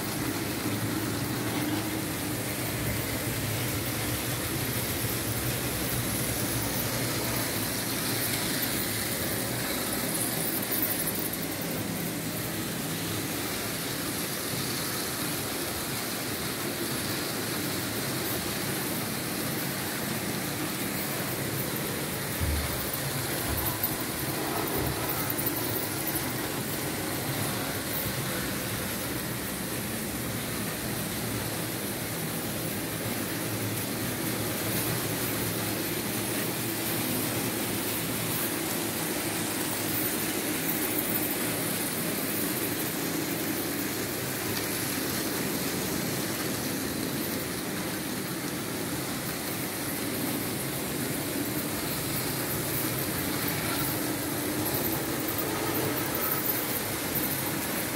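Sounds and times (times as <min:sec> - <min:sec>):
model trains rumbling on track: 0:00.0 - 0:57.9.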